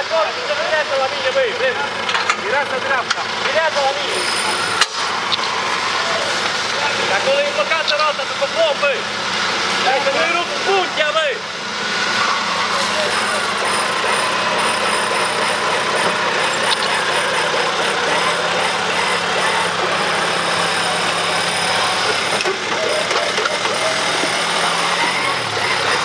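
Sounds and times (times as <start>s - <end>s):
engine running at low revs: 0.3s - 26.0s.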